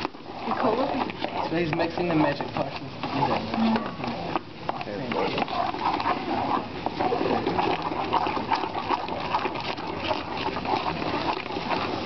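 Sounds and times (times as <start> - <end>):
liquid nitrogen boiling and bubbling: 0.0 - 12.0.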